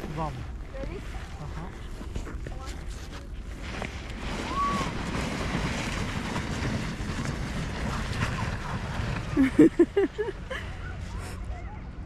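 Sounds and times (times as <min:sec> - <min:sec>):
board sliding on snow: 0:00.0 - 0:11.4
wind on microphone: 0:00.0 - 0:12.0.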